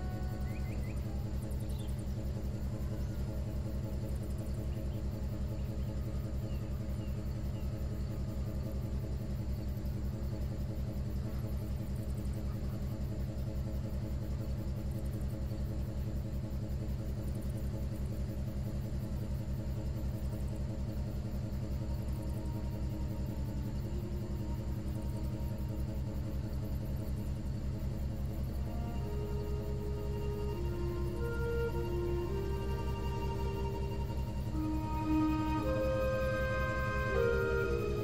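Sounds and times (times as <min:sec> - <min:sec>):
ship engine pulsing drone: 0:00.0 - 0:38.0.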